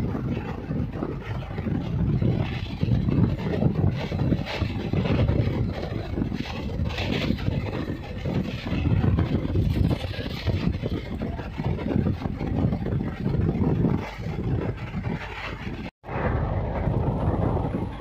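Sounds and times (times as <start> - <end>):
train wheels rumbling on rails: 0.0 - 18.0
wind rushing: 0.0 - 18.0.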